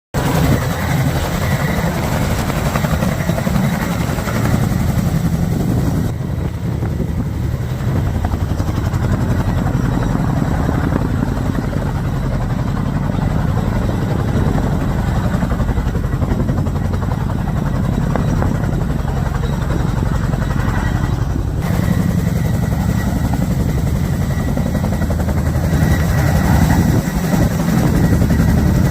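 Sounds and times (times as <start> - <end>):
helicopter rotor drone: 0.2 - 28.9.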